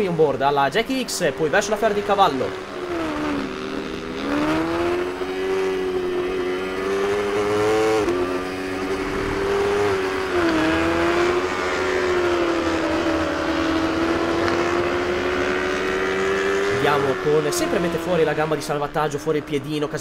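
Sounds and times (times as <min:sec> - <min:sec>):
motorcycle engine revving: 0:00.8 - 0:20.0.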